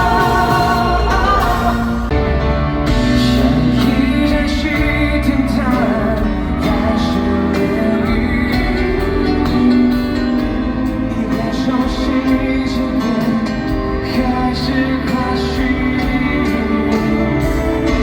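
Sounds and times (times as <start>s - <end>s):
pop singer with live band: 0.0s - 18.0s.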